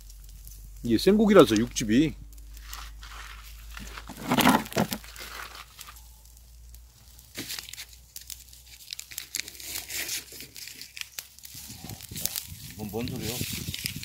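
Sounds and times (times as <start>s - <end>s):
meat crackling and popping on grill: 0.0s - 14.0s.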